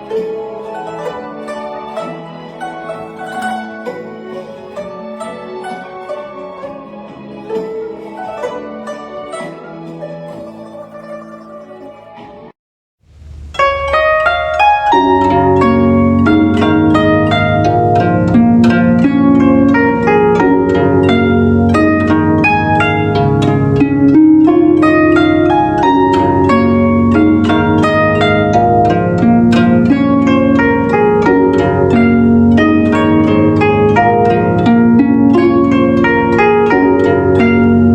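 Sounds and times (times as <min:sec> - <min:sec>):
lower accompaniment: 0:00.0 - 0:12.5, 0:13.1 - 0:37.9
plucked zither melody: 0:00.0 - 0:12.5, 0:13.2 - 0:37.9.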